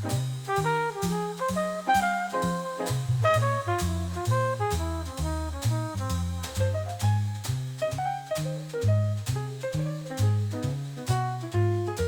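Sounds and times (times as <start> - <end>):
bass line: 0.0 - 12.0
jazz melody: 0.0 - 12.0.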